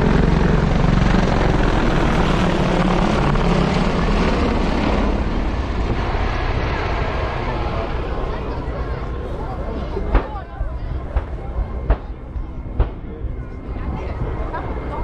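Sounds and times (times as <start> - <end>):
helicopter rotor beat: 0.0 - 15.0.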